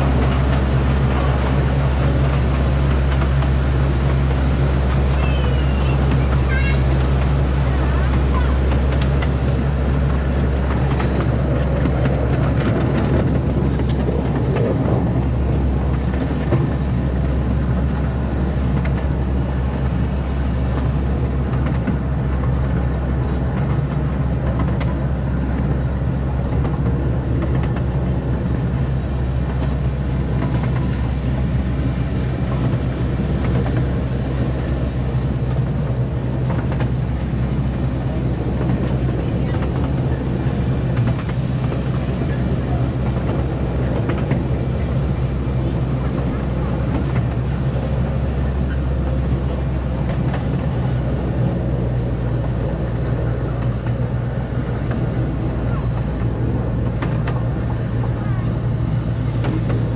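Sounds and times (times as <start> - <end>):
small ride train drone and rumble: 0.0 - 59.9.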